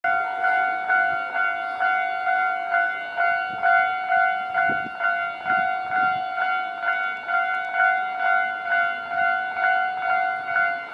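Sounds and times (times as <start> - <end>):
level crossing bell ringing: 0.1 - 10.9.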